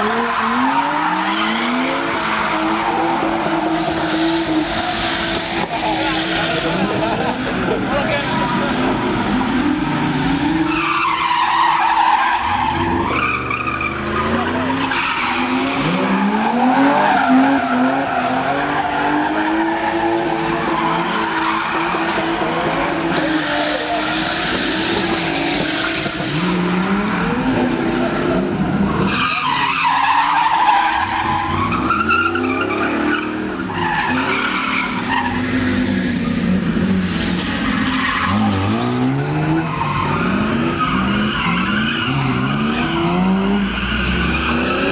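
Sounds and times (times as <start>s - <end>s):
car engines revving: 0.0s - 44.9s
tyres squealing and skidding: 0.0s - 44.9s.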